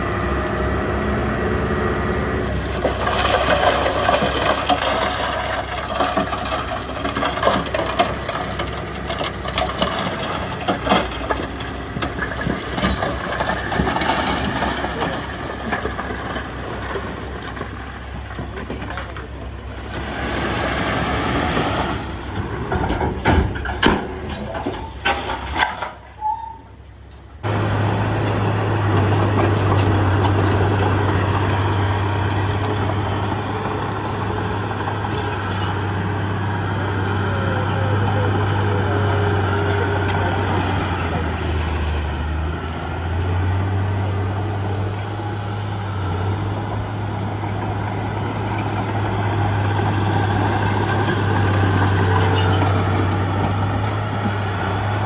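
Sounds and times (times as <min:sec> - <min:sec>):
diesel machinery engine: 0:00.0 - 0:55.0
machinery knocks and clatters: 0:02.7 - 0:19.4, 0:21.4 - 0:26.0, 0:28.2 - 0:44.7, 0:46.1 - 0:55.0.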